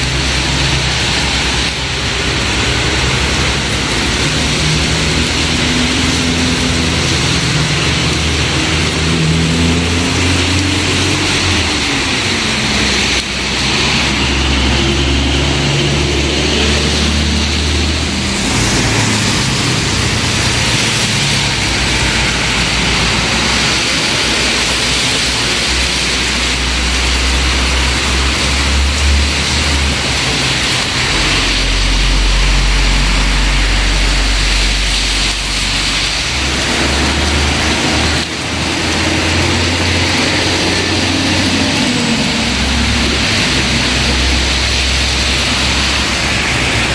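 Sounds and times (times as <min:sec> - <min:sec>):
heavy rain hissing: 0:00.0 - 0:46.9.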